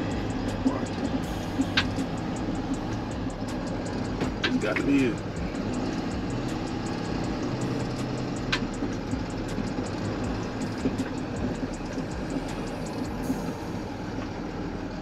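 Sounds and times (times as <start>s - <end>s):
truck engine droning at low speed: 0.0s - 15.0s.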